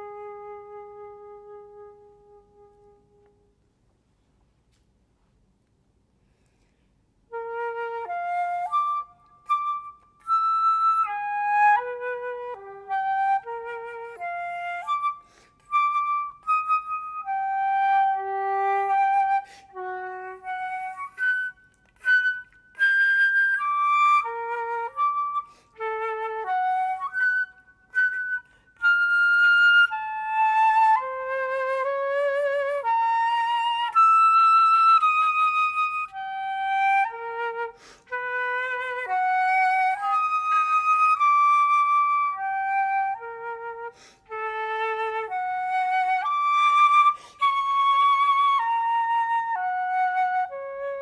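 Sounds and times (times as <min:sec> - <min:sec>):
flute playing lively melody: 0:00.0 - 0:03.3, 0:07.3 - 0:51.0.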